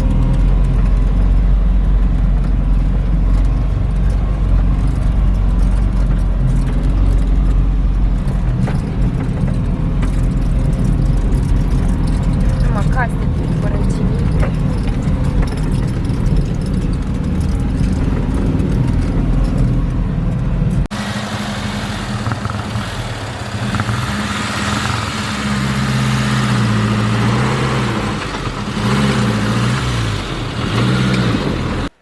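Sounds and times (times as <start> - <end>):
engine revving under load: 0.0 - 32.0.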